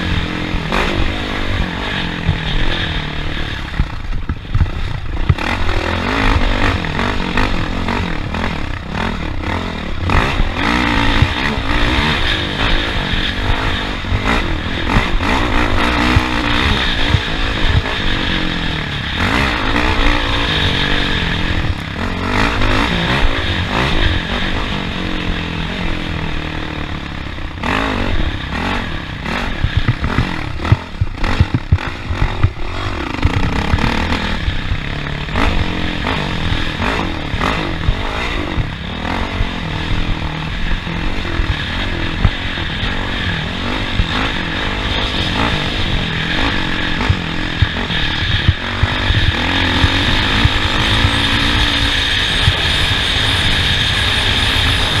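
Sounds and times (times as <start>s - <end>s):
race vehicle engine: 0.0s - 55.0s.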